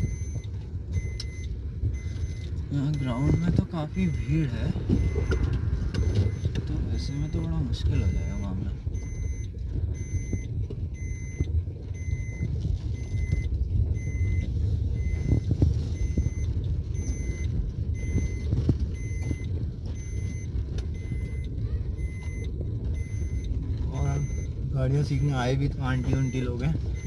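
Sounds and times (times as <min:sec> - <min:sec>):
car engine and tyre rumble: 0:00.0 - 0:27.0
dashboard warning chime beeping: 0:00.0 - 0:27.0.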